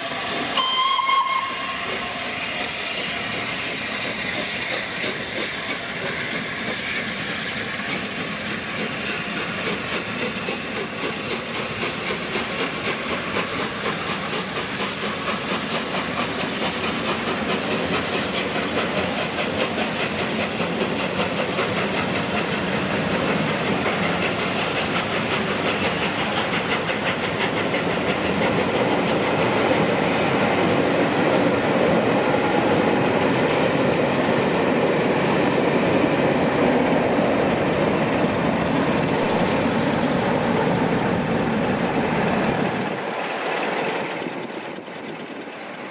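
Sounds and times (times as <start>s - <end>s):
train wheels clicking over rail joints: 0.0s - 45.9s.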